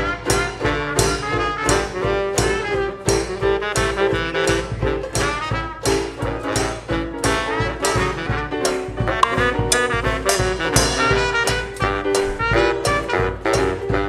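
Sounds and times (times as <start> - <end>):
up-tempo swing jazz with brass: 0.0 - 14.0.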